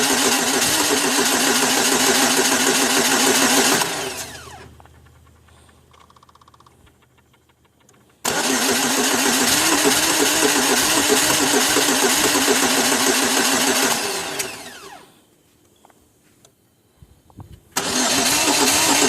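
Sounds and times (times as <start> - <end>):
car starter cranking engine: 0.0 - 15.0, 17.8 - 19.0.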